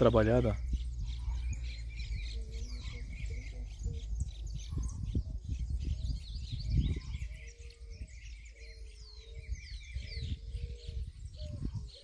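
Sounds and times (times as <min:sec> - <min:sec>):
small birds chirping: 0:00.0 - 0:12.0
steady low rumble: 0:00.0 - 0:12.0
dove cooing: 0:01.0 - 0:12.0.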